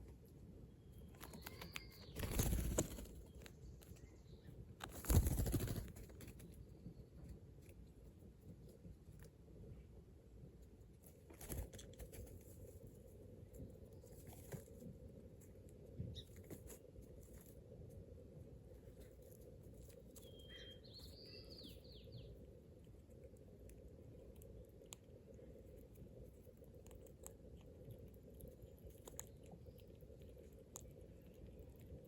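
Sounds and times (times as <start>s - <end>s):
low background rumble: 0.0s - 32.0s
squirrels ticking and scratching: 0.0s - 32.0s.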